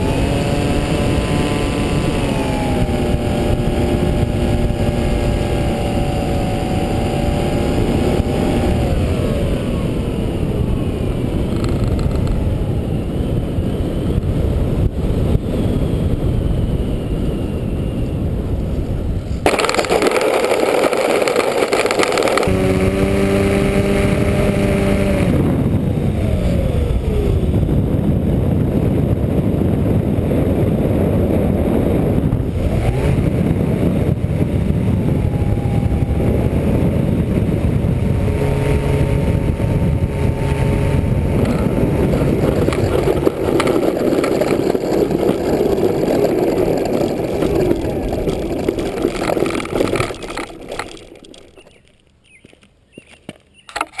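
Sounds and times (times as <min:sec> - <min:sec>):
electric motor winding down: 0:00.0 - 0:18.2, 0:19.5 - 0:27.9, 0:32.2 - 0:51.8.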